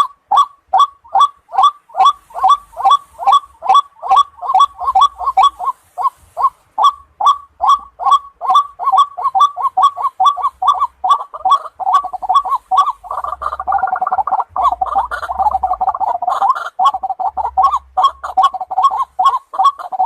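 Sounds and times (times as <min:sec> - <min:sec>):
waterhen croaking calls: 0:00.0 - 0:20.0.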